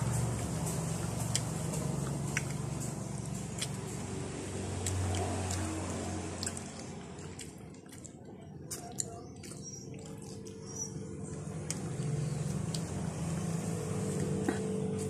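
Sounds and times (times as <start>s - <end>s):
steady low hum: 0.0s - 15.0s
fingers squishing food: 1.0s - 13.3s.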